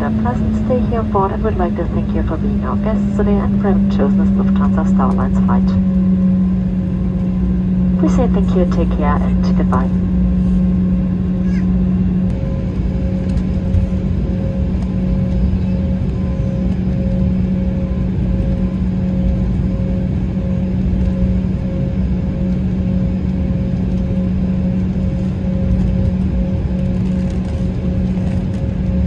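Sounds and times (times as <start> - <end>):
constant low hum: 0.0 - 29.0
faint pulsing tone: 0.0 - 29.0
jet engine rumble: 0.0 - 29.0.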